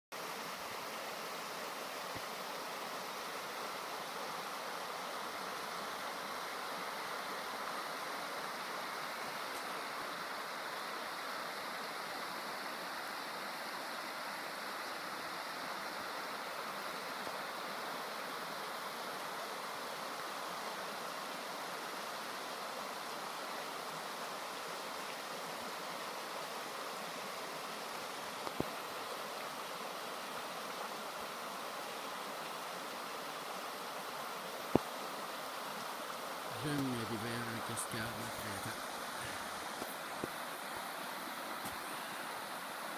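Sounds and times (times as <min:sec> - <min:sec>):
creek rushing over rocks: 0:00.2 - 0:42.9.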